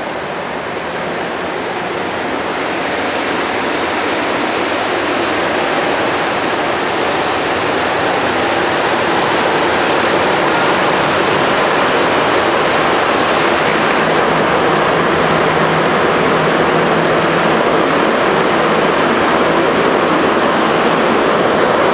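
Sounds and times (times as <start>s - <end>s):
subway car rushing through tunnel: 0.0s - 21.9s.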